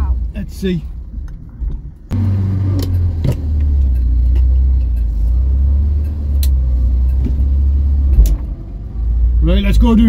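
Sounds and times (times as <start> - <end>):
car engine droning in cabin: 0.0 - 10.0.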